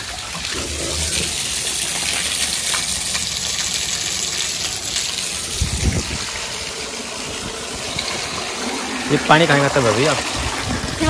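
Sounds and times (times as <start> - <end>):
water gushing from drain spout: 0.0 - 11.0.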